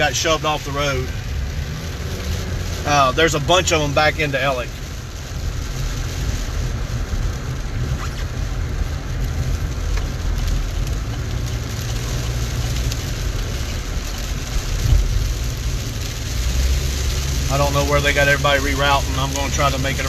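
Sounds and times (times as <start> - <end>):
car driving on wet road: 0.0 - 20.0.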